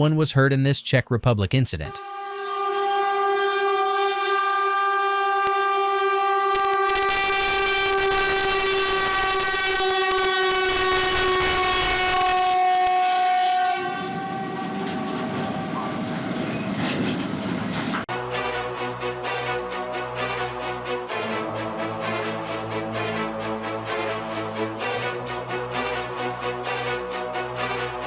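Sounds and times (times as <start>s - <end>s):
train horn blast: 1.9s - 16.2s, 18.1s - 28.0s
train rumbling past: 2.2s - 28.0s.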